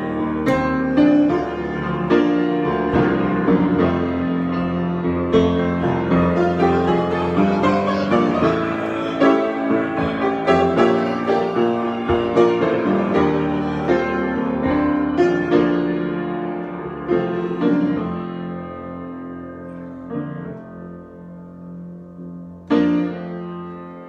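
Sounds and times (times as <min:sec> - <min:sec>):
solo piano playing: 0:00.0 - 0:24.0.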